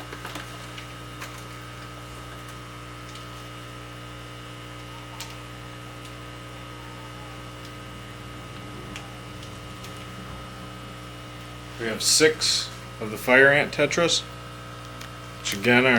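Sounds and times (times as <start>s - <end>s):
electrical hum: 0.0s - 15.9s.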